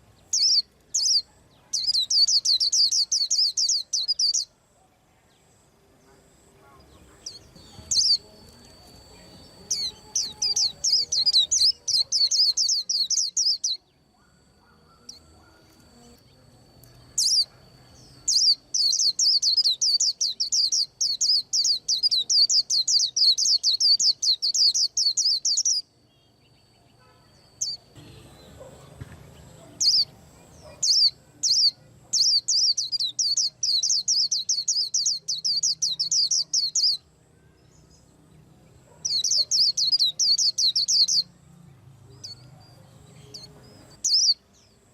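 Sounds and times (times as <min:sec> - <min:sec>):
bird singing high chirps: 0:00.0 - 0:04.6, 0:06.8 - 0:38.2, 0:38.9 - 0:41.4, 0:42.1 - 0:44.9.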